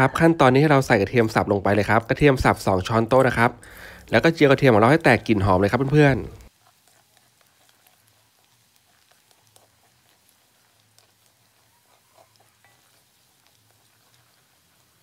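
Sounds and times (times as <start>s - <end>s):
garlic sizzling in oil: 0.0s - 15.0s
spatula scraping a wok: 0.5s - 15.0s.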